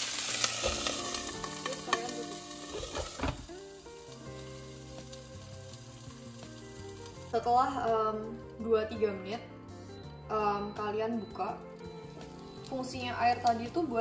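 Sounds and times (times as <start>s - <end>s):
dumplings sizzling in hot oil: 0.0s - 8.6s, 11.3s - 14.0s
soft background music: 0.0s - 14.0s.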